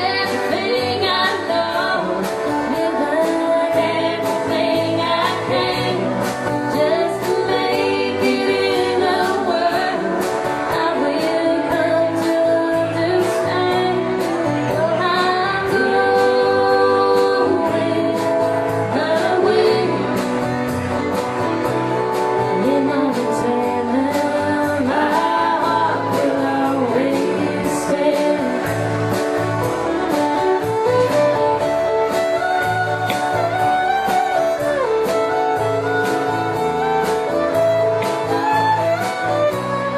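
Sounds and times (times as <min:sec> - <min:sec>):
woman singing: 0:00.0 - 0:20.5, 0:22.3 - 0:39.9
guitar: 0:00.0 - 0:39.9.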